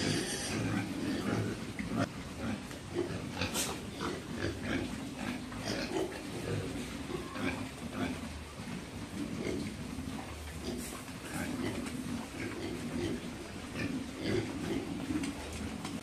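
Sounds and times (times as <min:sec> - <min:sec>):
pigs grunting: 0:00.0 - 0:16.0.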